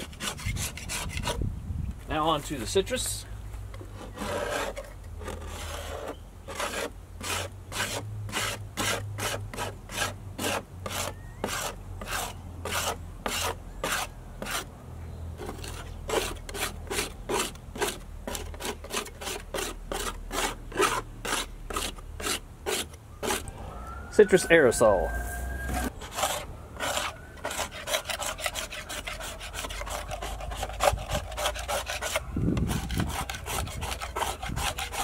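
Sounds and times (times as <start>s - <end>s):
metal scraper scraping boat hull: 0.0s - 1.4s, 3.8s - 14.7s, 15.4s - 23.5s, 25.7s - 35.0s.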